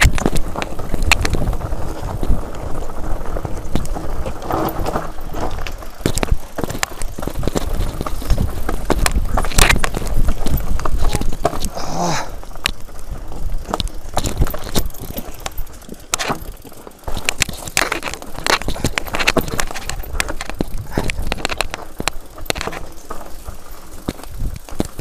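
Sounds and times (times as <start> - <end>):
mountain bike rattling on rocks: 0.0 - 25.0.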